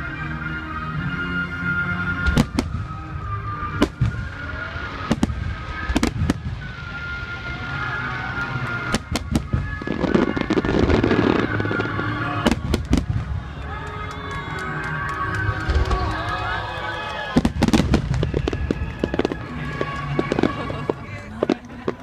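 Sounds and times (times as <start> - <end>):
background music: 0.0 - 22.0
fireworks bursting: 2.1 - 22.0.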